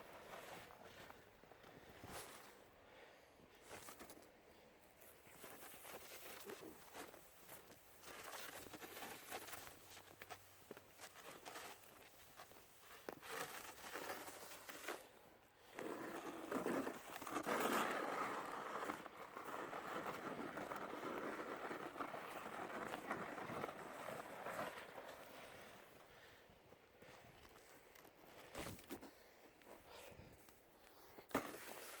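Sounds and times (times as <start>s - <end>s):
scraping and crunching noise: 5.3s - 26.2s, 27.1s - 32.0s.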